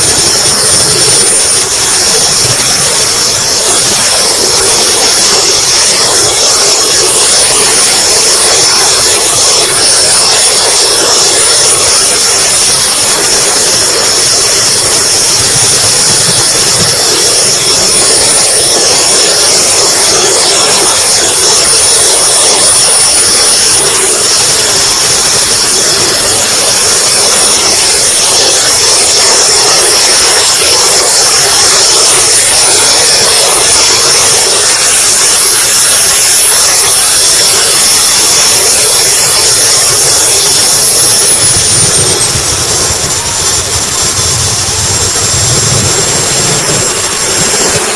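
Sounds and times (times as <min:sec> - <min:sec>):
jet turbine whine: 0:00.0 - 0:47.9
rushing airflow: 0:00.0 - 0:47.9.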